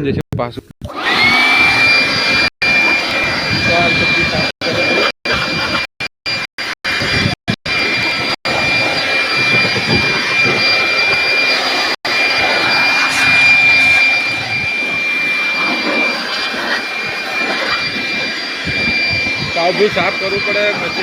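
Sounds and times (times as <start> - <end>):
rushing machine noise: 0.9 - 21.0
high steady whine: 1.2 - 21.0.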